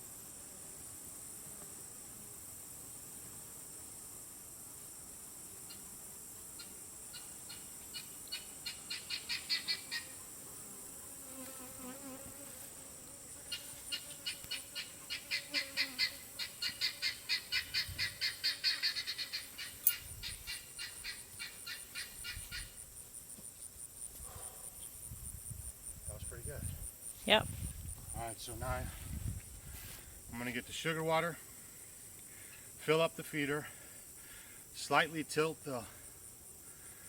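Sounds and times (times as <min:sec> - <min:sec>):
high insect buzz: 0:00.0 - 0:37.0.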